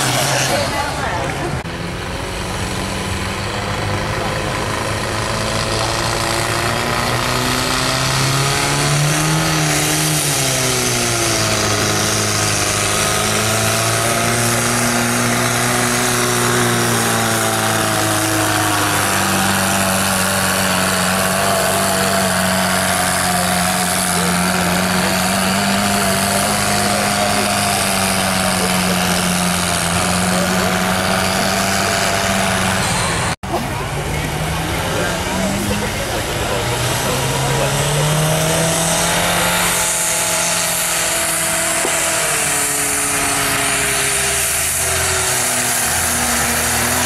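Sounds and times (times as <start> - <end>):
tractor engine running under load: 0.0 - 47.0.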